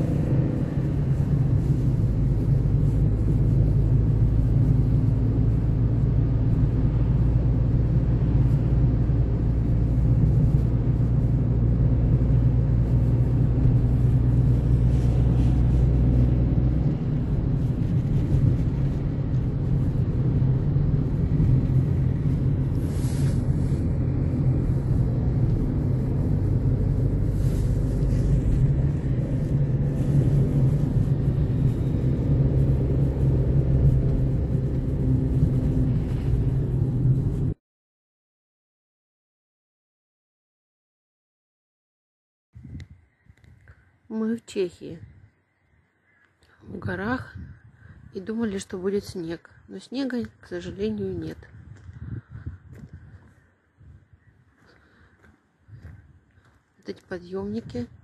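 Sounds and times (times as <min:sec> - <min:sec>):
car engine and road noise: 0:00.0 - 0:37.6, 0:42.6 - 0:58.0.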